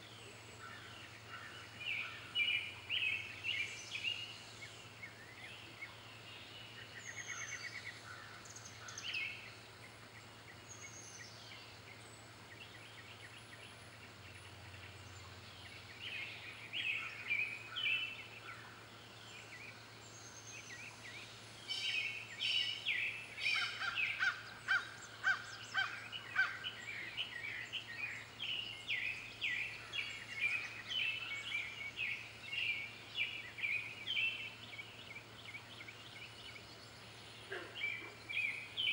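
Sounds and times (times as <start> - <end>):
wild birds chirping: 0.0 - 38.9.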